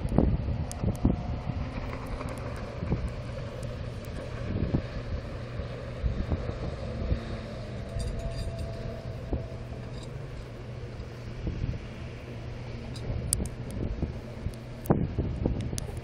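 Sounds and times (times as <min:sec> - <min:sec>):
distant boat engine drone: 0:00.0 - 0:16.0
wind buffeting microphone: 0:00.0 - 0:16.0.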